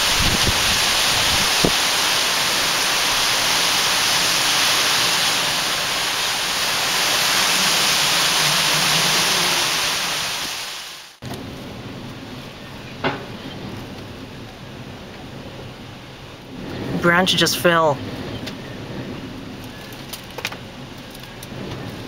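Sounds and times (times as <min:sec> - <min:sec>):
strong wind through palm trees: 0:00.0 - 0:22.0
wind and rain from inside a car: 0:00.0 - 0:22.0.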